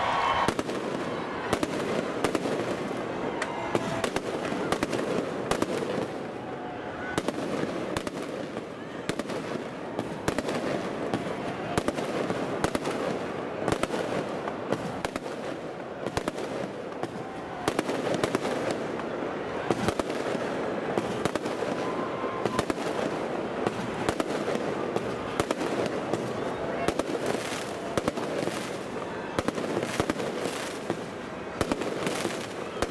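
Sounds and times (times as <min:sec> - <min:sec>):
fireworks bursting: 0:00.0 - 0:32.9.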